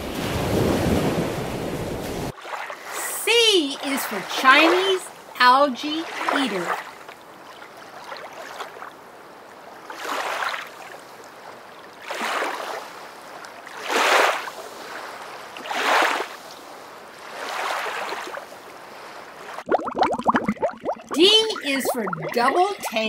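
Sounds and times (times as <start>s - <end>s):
small waves lapping: 0.0s - 23.0s.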